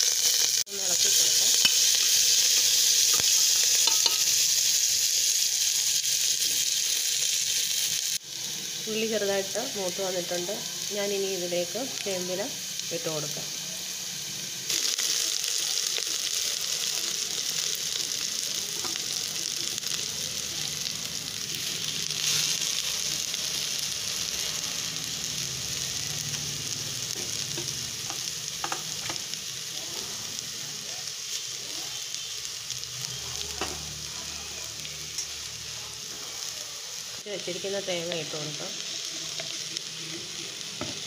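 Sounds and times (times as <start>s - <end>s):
leaves frying in hot oil: 0.0s - 41.0s.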